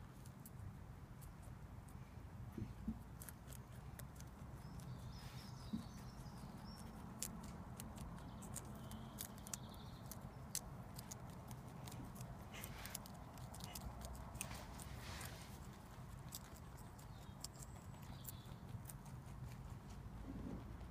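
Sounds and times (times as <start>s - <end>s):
low background rumble: 0.0s - 20.9s
rabbits chewing with crisp crunches: 0.0s - 20.9s.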